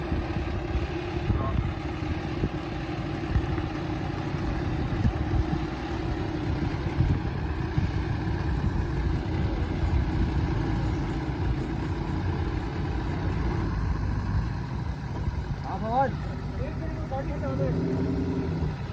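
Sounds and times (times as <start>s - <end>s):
engine running: 0.0s - 18.9s.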